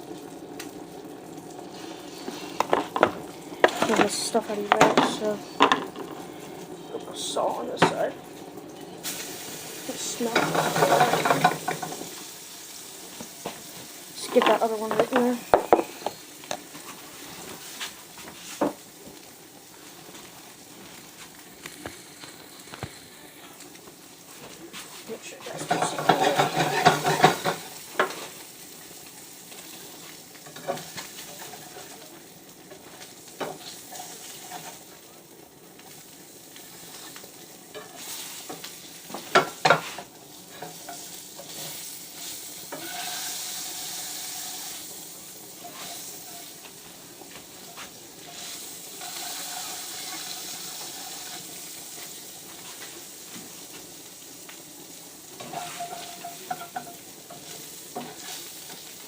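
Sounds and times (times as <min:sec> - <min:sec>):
fish sizzling in a pan: 0:00.0 - 0:59.0.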